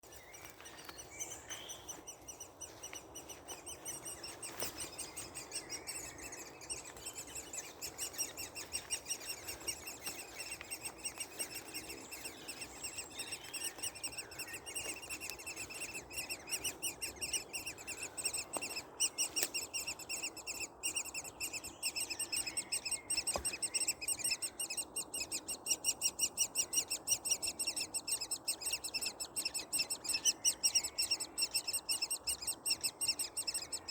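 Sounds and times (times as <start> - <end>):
woodpecker nestlings chattering: 0.1 - 33.9.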